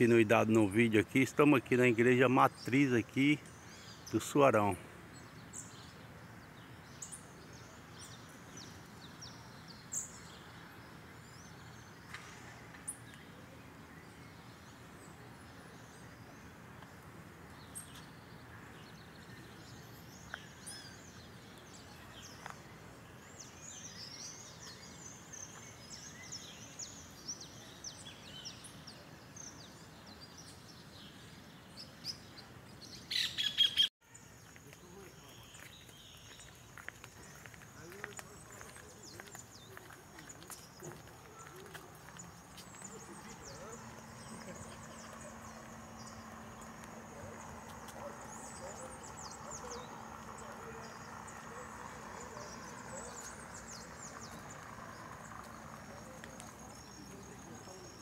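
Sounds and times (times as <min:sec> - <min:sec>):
small birds chirping: 0:00.0 - 0:58.0
steady outdoor hiss: 0:00.0 - 0:58.0.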